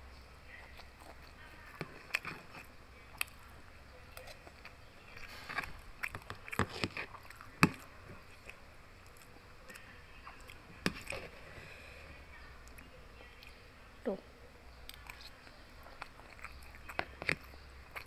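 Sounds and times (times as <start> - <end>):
chewing crispy food: 0.4 - 13.7, 14.7 - 18.0.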